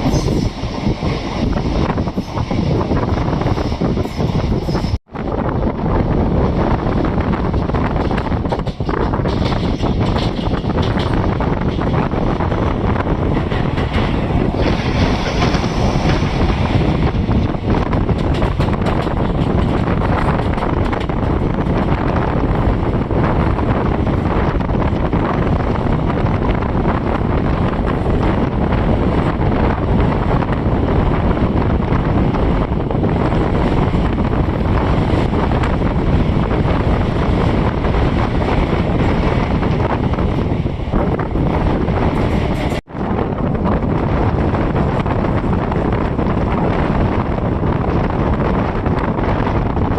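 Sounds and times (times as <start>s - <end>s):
passenger train running: 0.0s - 49.9s
wind buffeting microphone: 0.0s - 49.9s.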